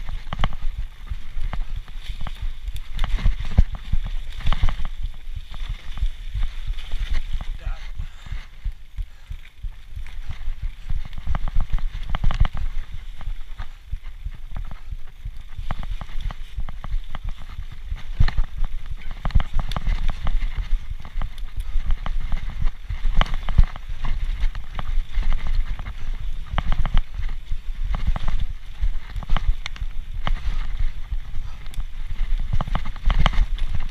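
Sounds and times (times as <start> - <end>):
bike knocks and rattles: 0.0 - 7.6, 9.5 - 33.9.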